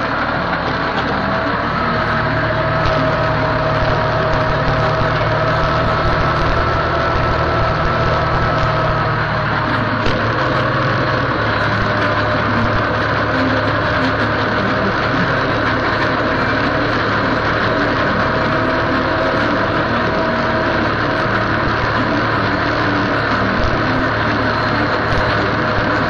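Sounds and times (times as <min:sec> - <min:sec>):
steady whine: 0:00.0 - 0:26.0
tractor engine running: 0:00.0 - 0:26.0.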